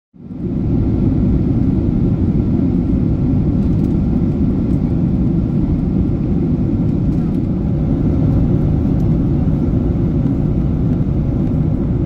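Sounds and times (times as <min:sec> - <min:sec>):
airplane cabin rumble: 0:00.2 - 0:12.0.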